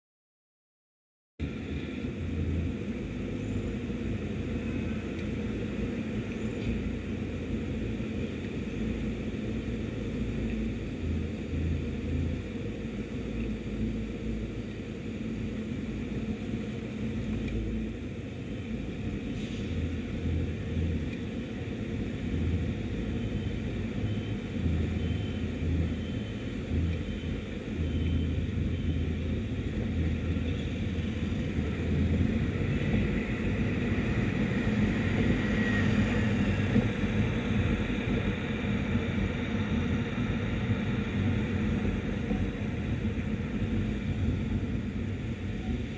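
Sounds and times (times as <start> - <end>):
wind and road noise: 1.4 - 45.9.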